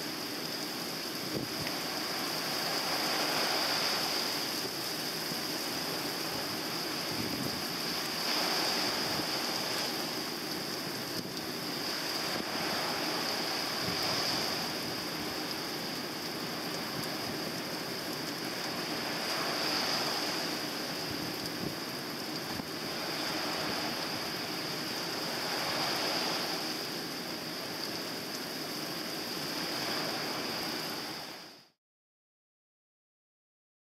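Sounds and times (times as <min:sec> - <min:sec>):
surf breaking on a beach: 0:00.0 - 0:31.6
rain hissing: 0:00.0 - 0:31.8.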